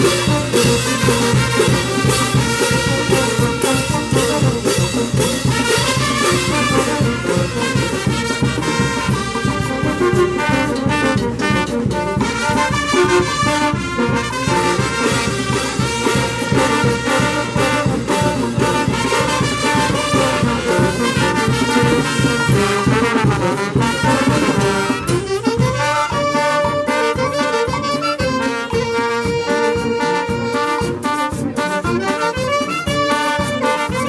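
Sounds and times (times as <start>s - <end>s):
brass band playing: 0.0s - 34.0s.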